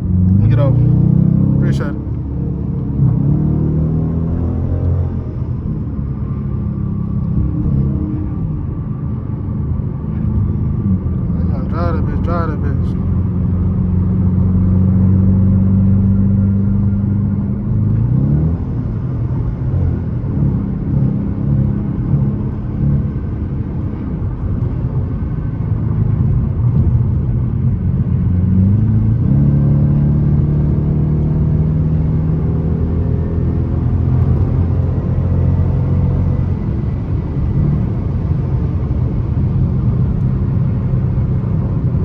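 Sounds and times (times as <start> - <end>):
car engine droning from inside cabin: 0.0 - 42.0.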